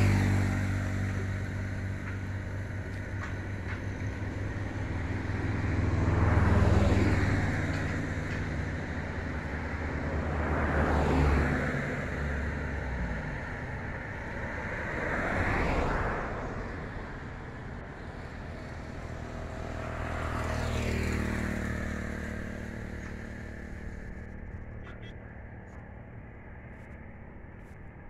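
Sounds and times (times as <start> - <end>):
low engine hum: 0.0 - 28.0
road vehicles passing: 0.0 - 28.0.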